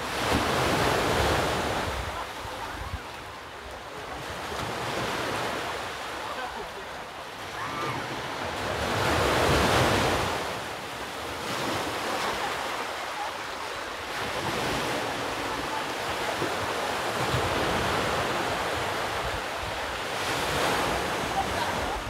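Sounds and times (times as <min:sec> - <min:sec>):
sea surf washing ashore: 0:00.0 - 0:22.0.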